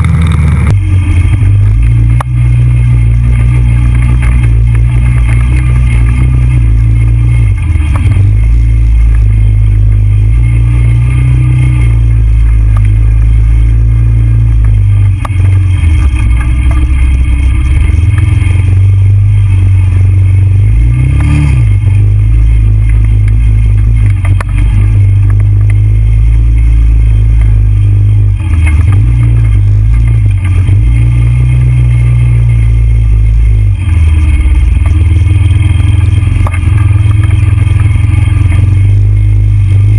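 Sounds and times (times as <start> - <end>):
quad engine running under load: 0.0 - 39.9.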